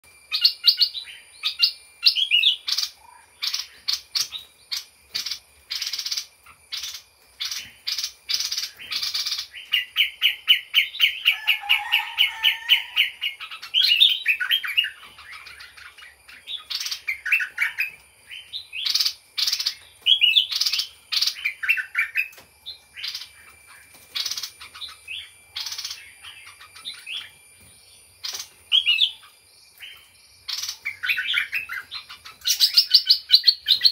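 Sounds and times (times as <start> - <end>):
rapid bird trill: 0.0 - 33.9
songbird singing: 0.0 - 33.9.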